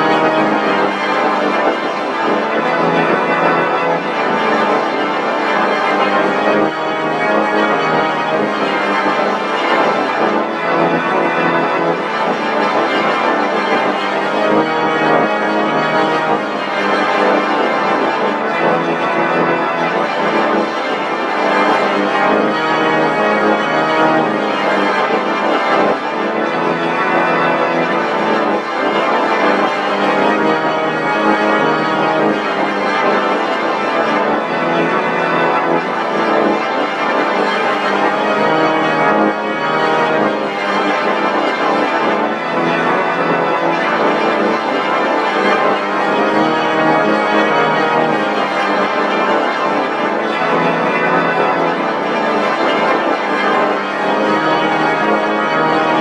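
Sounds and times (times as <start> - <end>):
electronic organ-like drone: 0.0 - 56.0.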